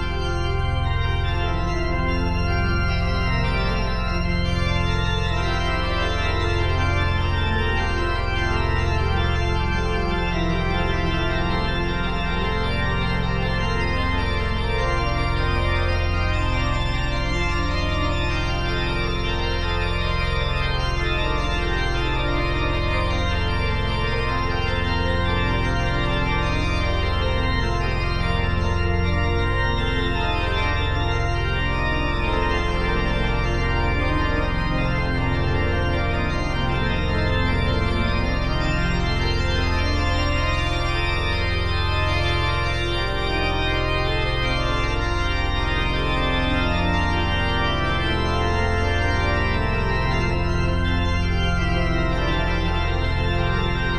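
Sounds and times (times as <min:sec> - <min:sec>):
organ-like chords: 0:00.0 - 0:53.9.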